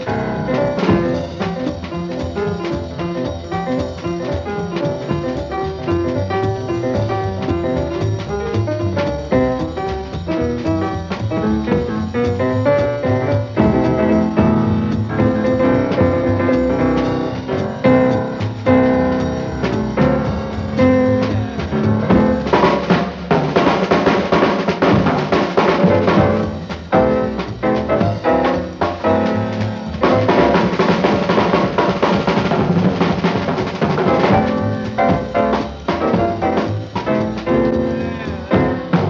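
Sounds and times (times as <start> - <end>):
jazz combo: 0.0 - 39.0
snare and bass drum hits: 0.0 - 39.0.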